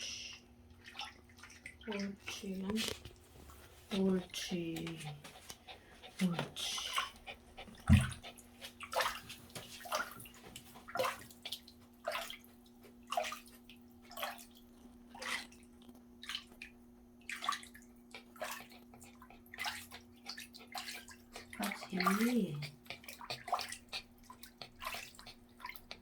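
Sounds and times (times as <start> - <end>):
bath water splashing: 0.7 - 26.0
steady low hum: 1.6 - 26.0.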